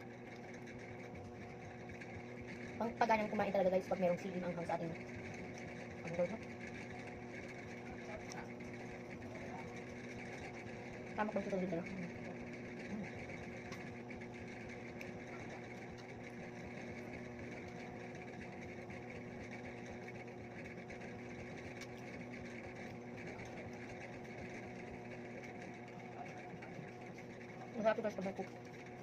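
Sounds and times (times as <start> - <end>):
motor hum: 0.0 - 29.0.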